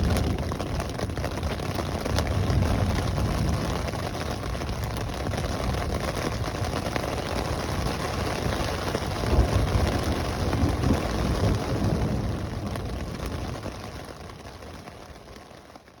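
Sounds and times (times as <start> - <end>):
thunder rumbling: 0.0 - 14.4
steady rain: 0.0 - 16.0.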